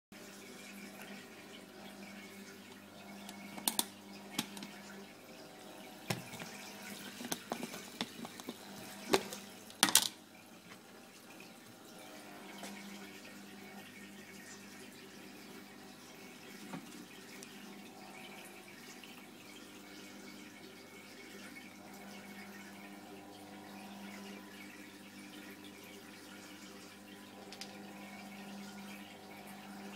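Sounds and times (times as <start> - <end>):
aquarium filter humming: 0.2 - 29.9
water trickling: 0.2 - 29.9.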